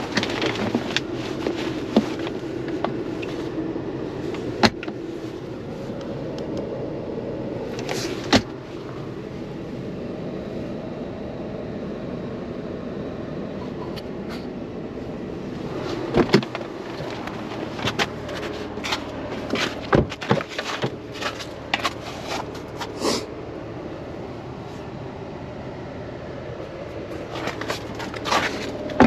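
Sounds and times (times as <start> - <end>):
car cabin running noise: 0.0 - 29.0.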